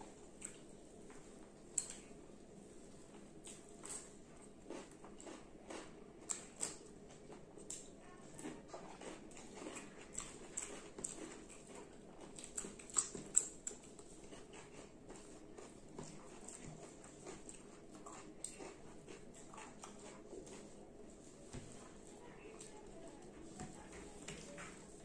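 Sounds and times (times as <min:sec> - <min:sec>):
wet chewing and lip-smacking: 0:00.2 - 0:02.1, 0:03.2 - 0:21.6.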